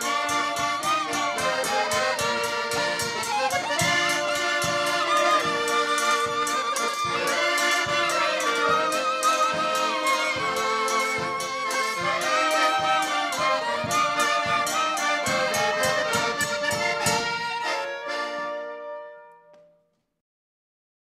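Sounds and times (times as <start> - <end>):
steady percussive beat: 0.0 - 18.7
fiddle-led folk band: 0.0 - 19.6.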